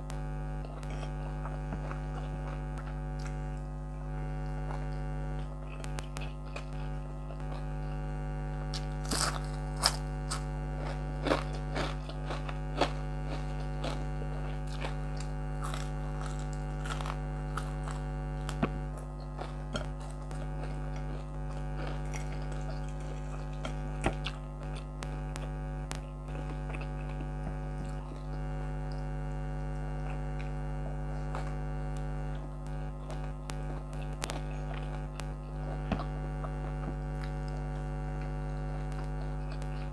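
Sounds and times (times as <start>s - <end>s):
air conditioner humming: 0.0s - 39.9s
chewing and eating clicks: 0.0s - 39.9s.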